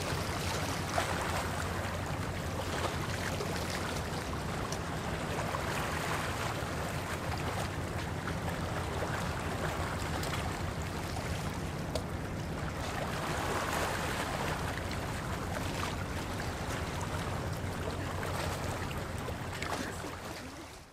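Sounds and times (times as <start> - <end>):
small waves lapping against rocks: 0.0 - 20.9.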